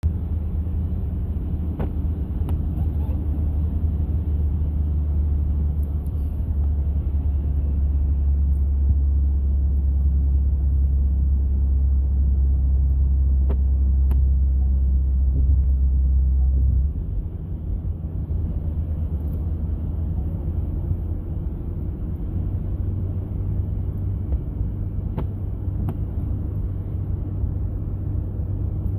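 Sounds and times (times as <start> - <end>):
car road and engine rumble: 0.0 - 28.9.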